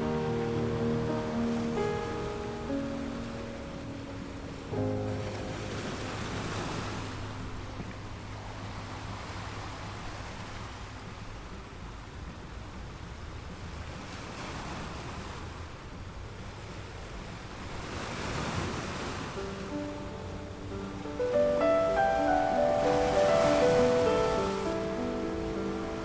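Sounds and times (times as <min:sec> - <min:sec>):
ocean waves washing on shore: 0:00.0 - 0:26.0.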